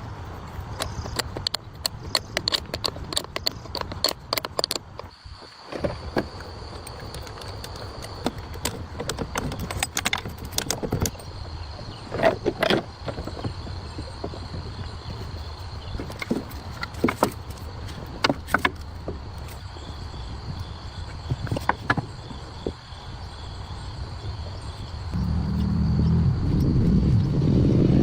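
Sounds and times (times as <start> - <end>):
high insect trill: 0.0 - 28.0.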